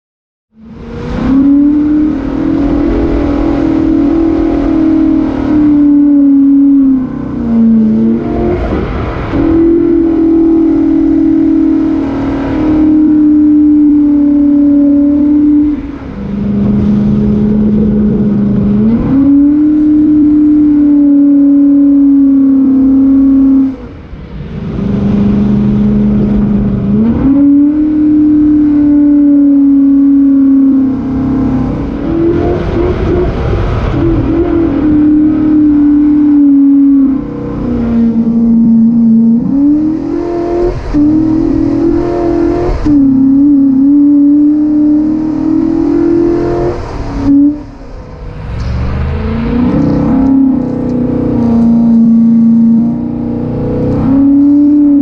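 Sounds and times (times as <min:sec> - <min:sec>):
engine revving high: 0:00.6 - 0:55.0.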